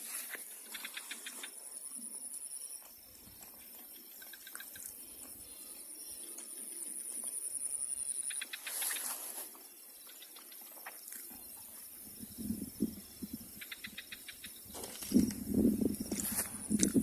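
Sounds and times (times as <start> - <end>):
insect trill: 0.0 - 17.0.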